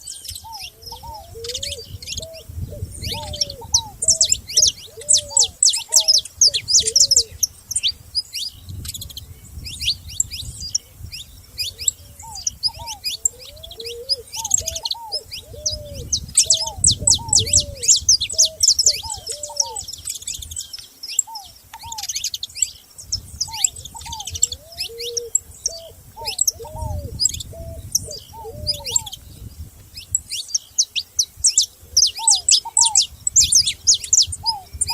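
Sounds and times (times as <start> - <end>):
songbirds chirping and trilling: 0.0 - 34.9.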